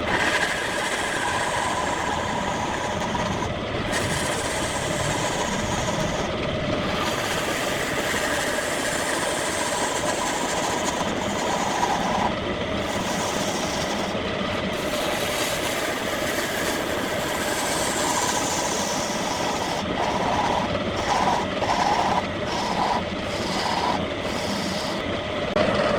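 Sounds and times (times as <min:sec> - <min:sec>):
tool cutting spinning wood: 0:00.0 - 0:25.9
wood lathe running: 0:00.0 - 0:25.9.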